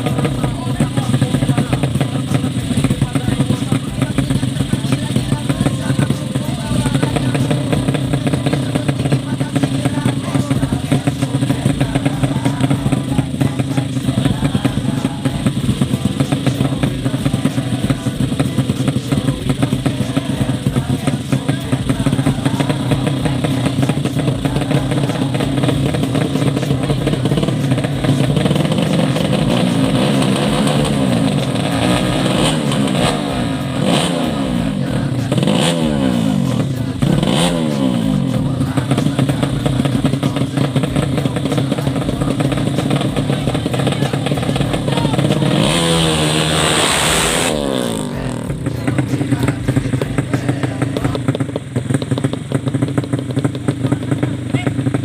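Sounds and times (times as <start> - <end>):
motorcycle engines idling: 0.0 - 55.0
motorcycle revving and accelerating away: 0.0 - 55.0
motorcycle throttle blips: 0.0 - 55.0.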